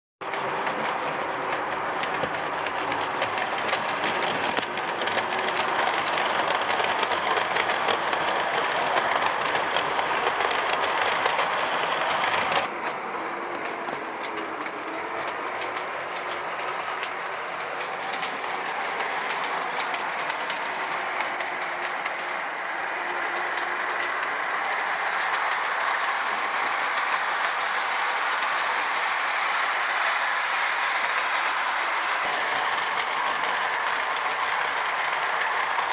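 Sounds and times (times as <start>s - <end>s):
model train wheels clicking over rails: 0.2s - 35.9s.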